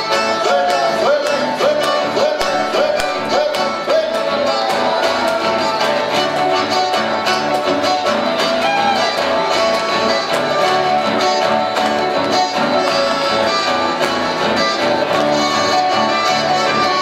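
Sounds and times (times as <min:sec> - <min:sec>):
button accordions playing melody: 0:00.0 - 0:17.0
strummed acoustic guitars: 0:00.0 - 0:17.0.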